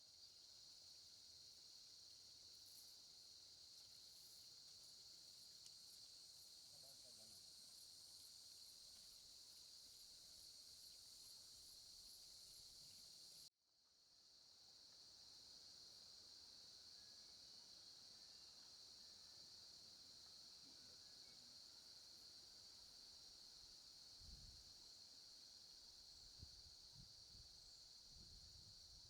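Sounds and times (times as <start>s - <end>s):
insects chirring: 0.1s - 13.5s, 14.4s - 29.0s.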